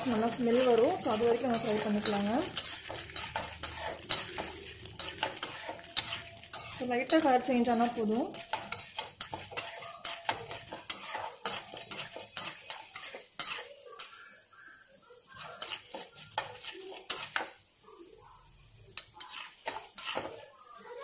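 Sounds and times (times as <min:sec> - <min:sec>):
metal ladle scraping a pan: 0:00.0 - 0:14.3, 0:15.2 - 0:17.6, 0:18.9 - 0:20.6.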